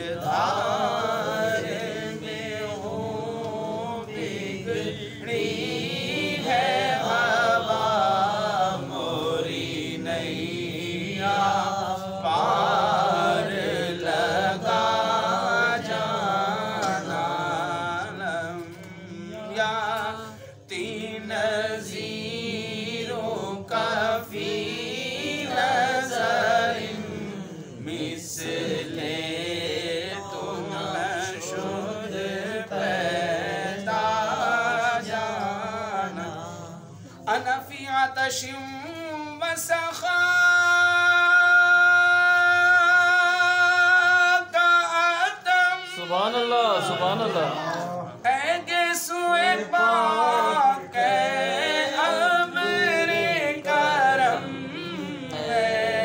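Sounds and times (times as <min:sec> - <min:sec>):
man chanting melismatically: 0:00.0 - 0:56.0.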